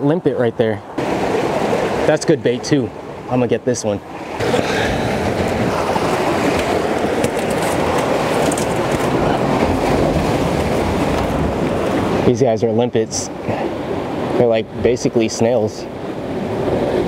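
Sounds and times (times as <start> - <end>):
ocean surf washing against rocks: 1.0 - 17.0.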